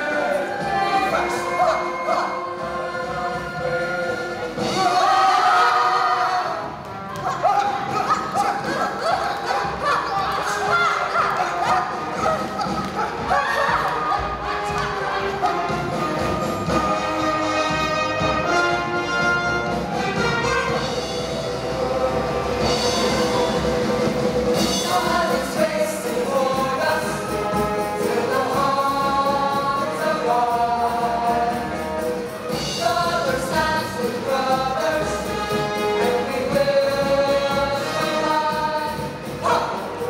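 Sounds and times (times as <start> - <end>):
choir singing held notes: 0.0 - 40.0
instrumental backing music: 0.0 - 40.0.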